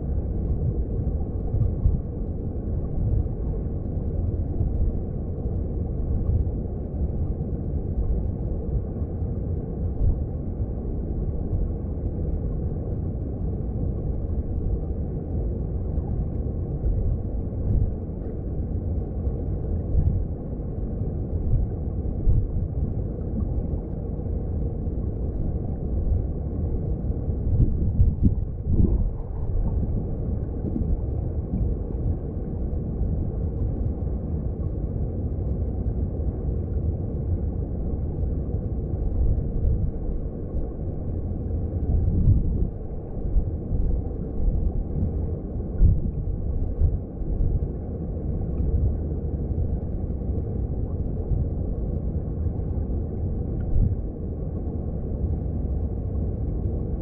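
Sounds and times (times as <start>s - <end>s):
stream heard underwater: 0.0s - 57.0s.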